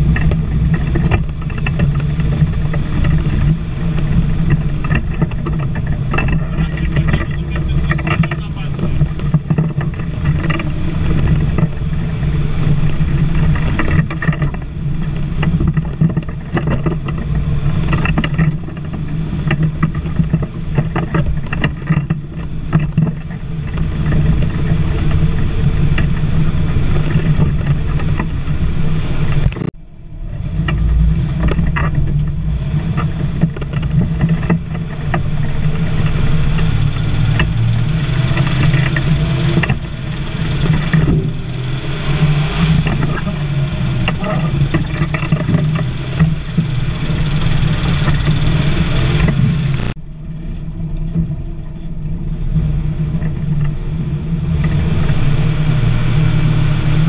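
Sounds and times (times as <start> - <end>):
cab knocks and rattles: 0.0 - 29.8, 30.5 - 50.0
truck engine under load: 0.0 - 57.0.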